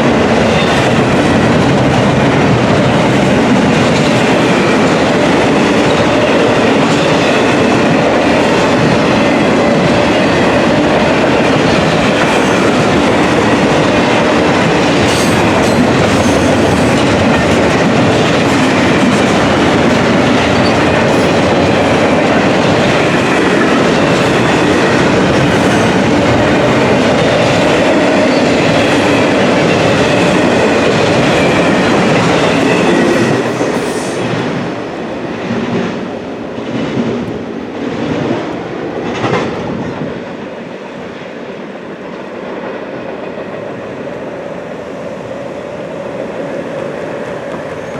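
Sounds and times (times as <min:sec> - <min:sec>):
clickety-clack over rail joints: 0:00.0 - 0:40.4, 0:46.4 - 0:47.9
train wheels rumbling on rail: 0:00.0 - 0:47.9.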